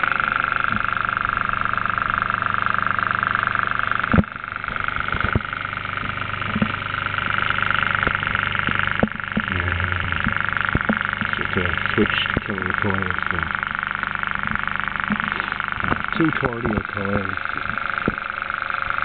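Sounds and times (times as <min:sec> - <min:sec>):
small electric motor whine: 0:00.0 - 0:19.0.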